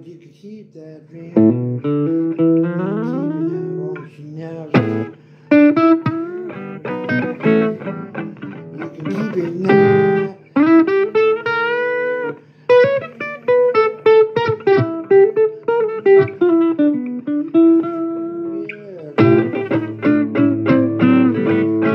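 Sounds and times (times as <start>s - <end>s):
blues guitar lead: 1.2s - 21.9s.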